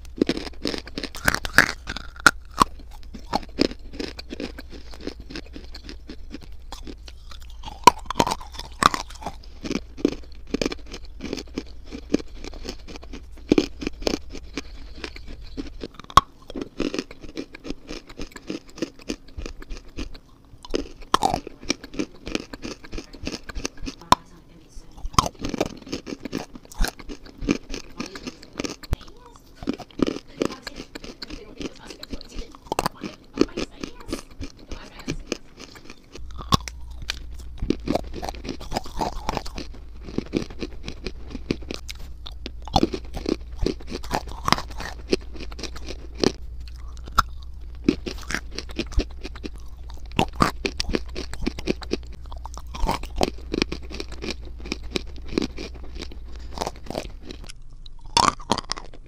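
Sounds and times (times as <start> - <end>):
crunching and chewing: 0.0 - 59.0
low hum: 0.0 - 59.0.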